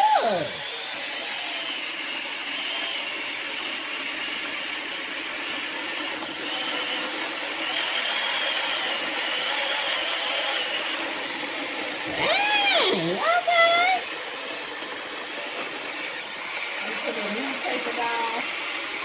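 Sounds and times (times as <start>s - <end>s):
electric chainsaw whine: 0.0s - 19.0s.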